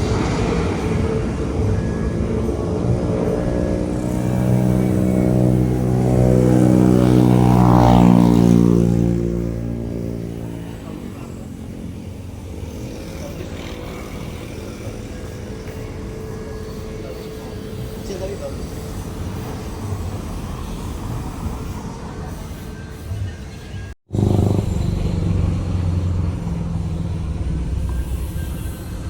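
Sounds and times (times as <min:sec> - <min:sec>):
passing engine hum: 0:00.0 - 0:23.1, 0:23.8 - 0:29.0.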